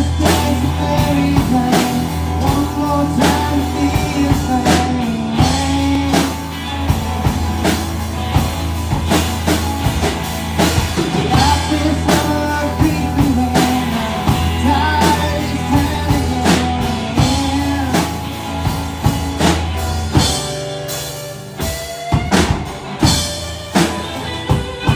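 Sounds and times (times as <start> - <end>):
low bass notes: 0.0 - 21.6
drum kit beat: 0.0 - 24.9
live rock band playing: 0.0 - 24.9.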